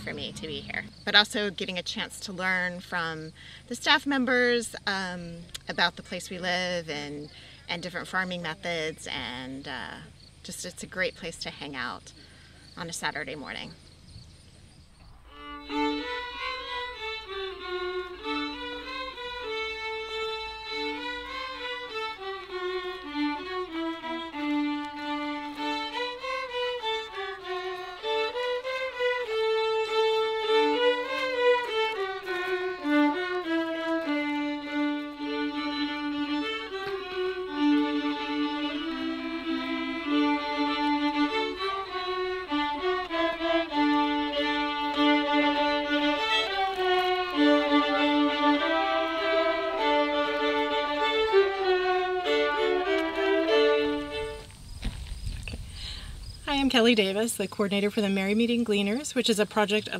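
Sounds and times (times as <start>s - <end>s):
violins playing a tune: 0.0s - 12.0s, 15.2s - 54.6s.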